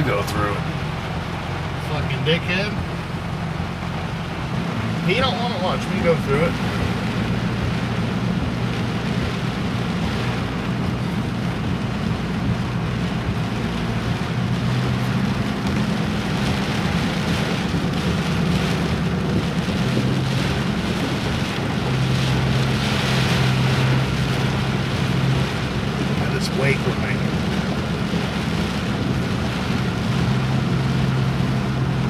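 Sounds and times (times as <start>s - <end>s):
car engine running: 0.0s - 32.0s
rain: 0.0s - 32.0s
water rushing and splashing: 0.0s - 32.0s.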